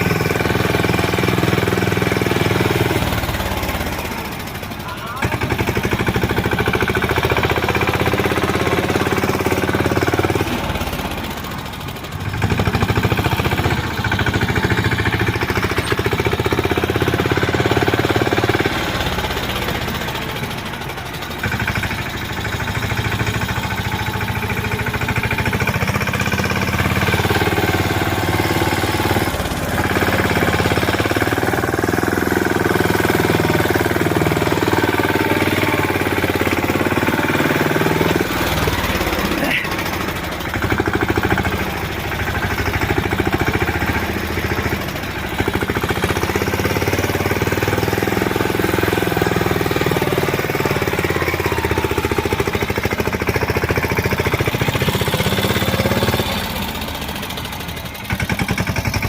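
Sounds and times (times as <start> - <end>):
tractor diesel engine knocking: 0.0 - 59.0.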